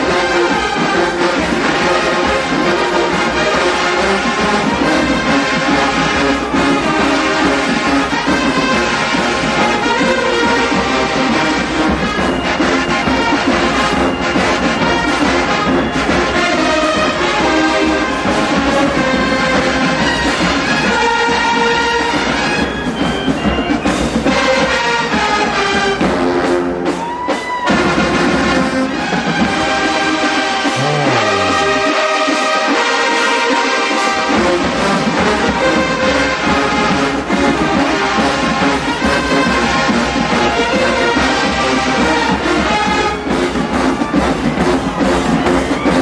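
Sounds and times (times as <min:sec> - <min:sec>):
drums: 0:00.0 - 0:46.0
marching band brass playing: 0:00.0 - 0:46.0.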